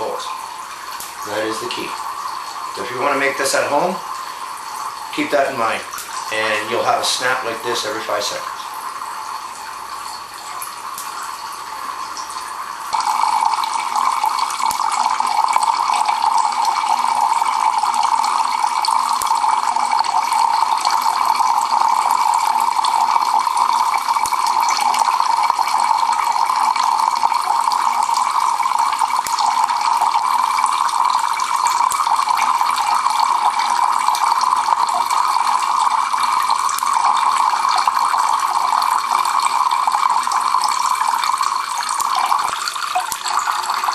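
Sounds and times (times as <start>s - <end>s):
water pouring and splashing into cans: 0.0s - 43.9s.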